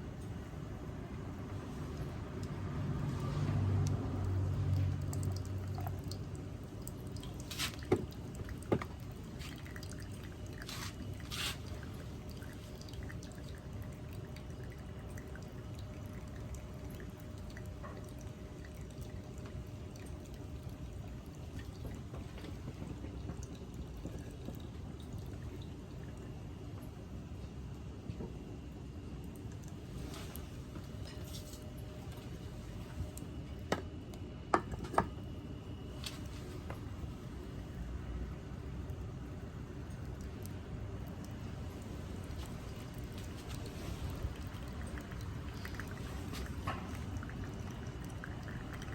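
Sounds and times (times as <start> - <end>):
low steady background noise: 0.0 - 48.9
liquid dripping: 0.1 - 34.3, 35.2 - 48.9.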